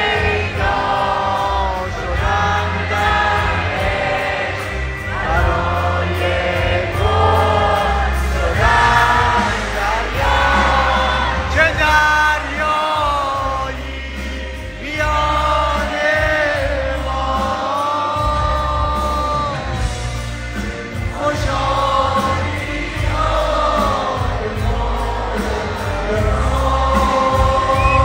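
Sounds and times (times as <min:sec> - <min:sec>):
heavy bass: 0:00.0 - 0:28.0
live pop band playing: 0:00.0 - 0:28.0.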